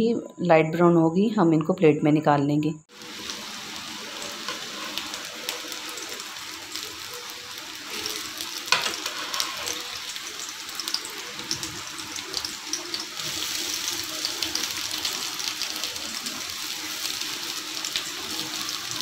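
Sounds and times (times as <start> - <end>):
meat sizzling in a frying pan: 2.9 - 19.0.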